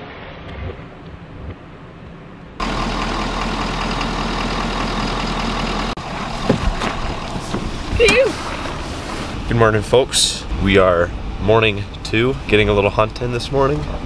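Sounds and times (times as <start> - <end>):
pickup engine idling: 2.6 - 14.0.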